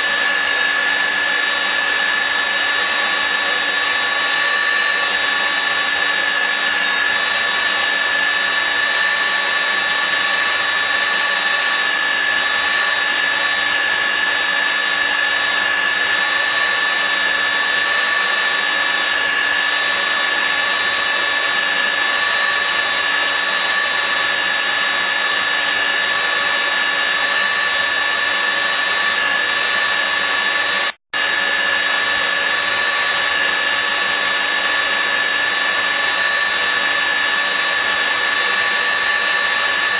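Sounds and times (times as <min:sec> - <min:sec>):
magnetic drill motor whining: 0:00.0 - 0:39.9.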